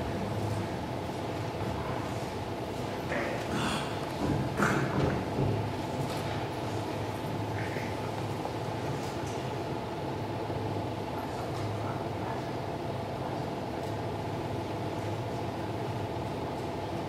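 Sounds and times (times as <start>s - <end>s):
steady hum with held tones: 0.0s - 17.0s.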